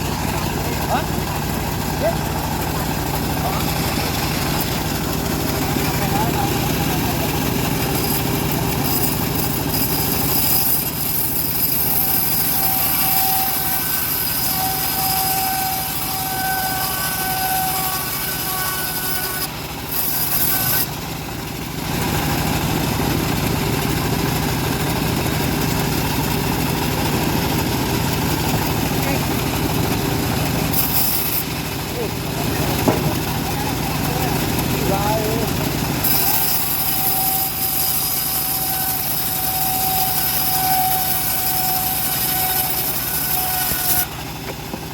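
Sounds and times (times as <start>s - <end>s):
bandsaw mill sawing timber: 0.0s - 44.9s.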